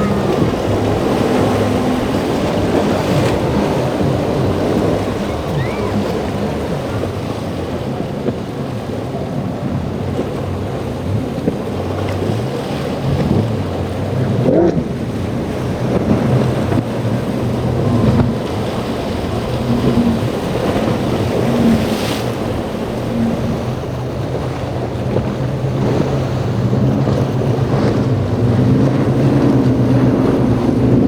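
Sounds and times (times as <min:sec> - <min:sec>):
boat engines running: 0:00.0 - 0:31.0
crashing surf and waves: 0:00.0 - 0:31.0
wind buffeting microphone: 0:00.0 - 0:31.0.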